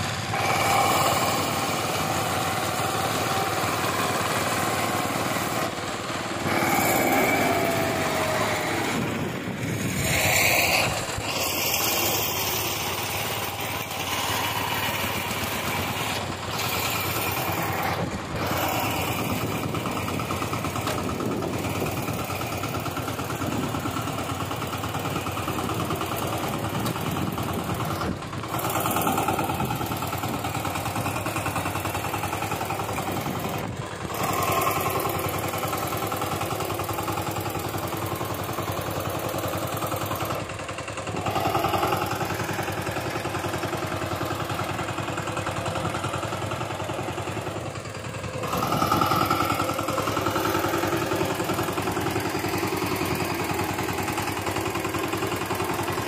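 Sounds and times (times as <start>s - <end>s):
rotary tines churning soil: 0.0s - 40.4s, 41.0s - 56.0s
diesel engine running under load: 0.0s - 56.0s.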